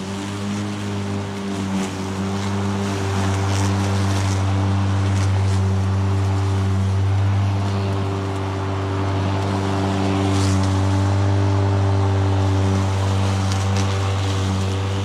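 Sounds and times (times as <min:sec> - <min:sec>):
electric lawnmower cutting grass: 0:00.0 - 0:15.0.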